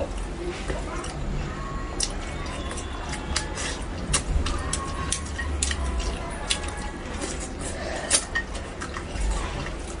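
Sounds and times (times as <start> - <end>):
person eating: 0.0 - 10.0.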